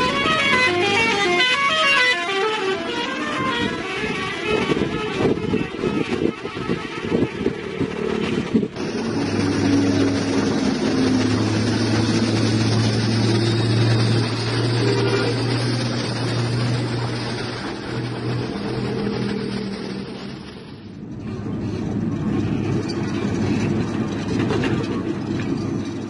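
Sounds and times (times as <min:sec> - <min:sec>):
diesel truck driving past: 0:00.0 - 0:26.0
road noise: 0:00.0 - 0:26.0.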